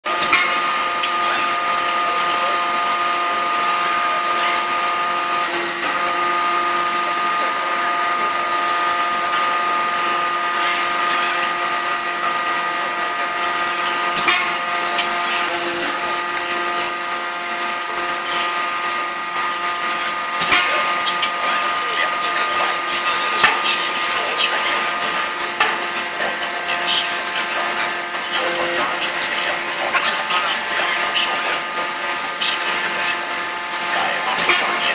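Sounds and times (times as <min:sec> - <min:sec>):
industrial machinery humming: 0:00.0 - 0:34.9
high whining tones: 0:00.1 - 0:34.9.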